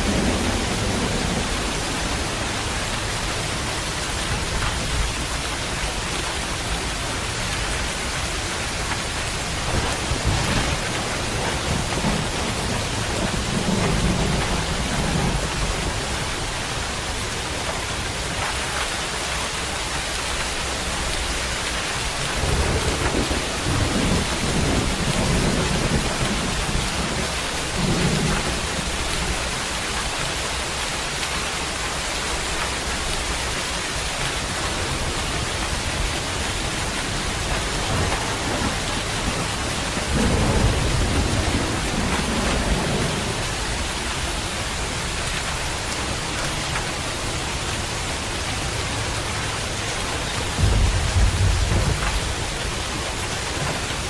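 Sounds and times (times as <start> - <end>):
thunder rumbling: 0.0 - 18.8, 19.8 - 54.0
steady rain: 0.0 - 54.0.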